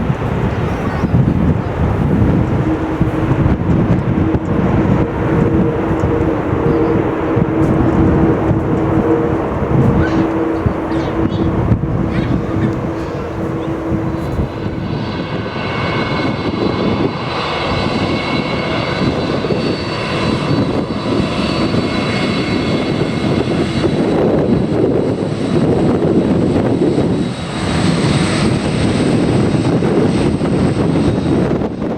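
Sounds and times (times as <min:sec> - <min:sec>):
jet engines of landing airliner: 0:00.0 - 0:31.9.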